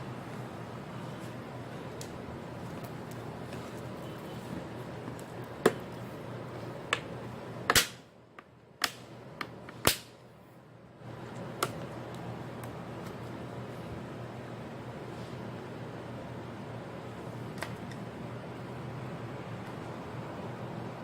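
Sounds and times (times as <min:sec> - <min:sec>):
background hum and hiss: 0:00.0 - 0:21.0.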